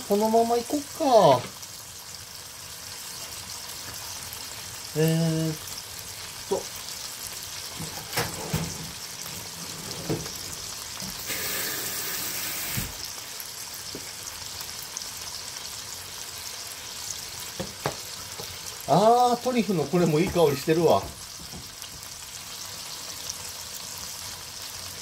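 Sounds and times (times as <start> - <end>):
chicken sizzling in frying pan: 0.0 - 25.0.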